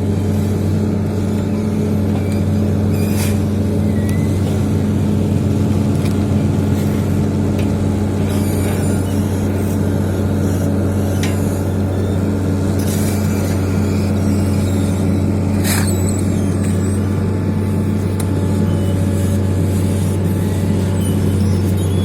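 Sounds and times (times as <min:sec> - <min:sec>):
heavy diesel engines running: 0:00.0 - 0:22.0.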